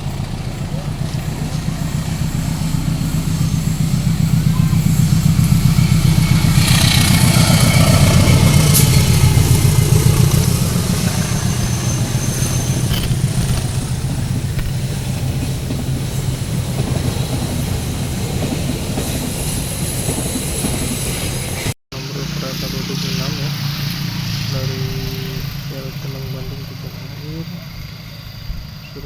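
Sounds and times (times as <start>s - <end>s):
diesel train passing: 0.0s - 29.0s.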